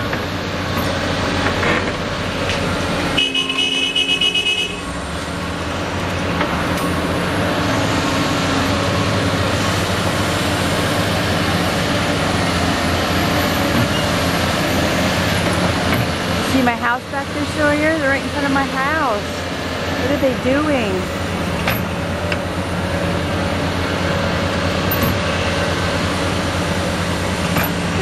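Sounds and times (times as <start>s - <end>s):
diesel engines running: 0.0s - 28.0s.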